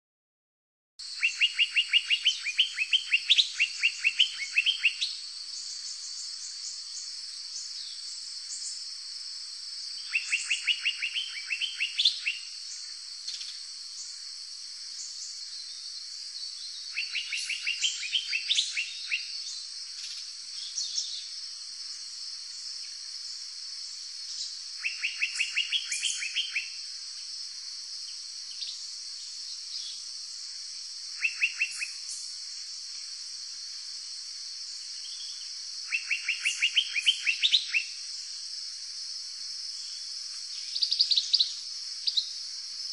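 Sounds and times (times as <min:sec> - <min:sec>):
high-pitched insect drone: 0:01.0 - 0:42.9.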